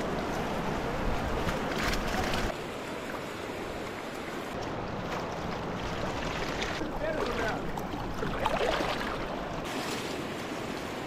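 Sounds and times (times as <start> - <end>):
water flowing: 0.0 - 11.0.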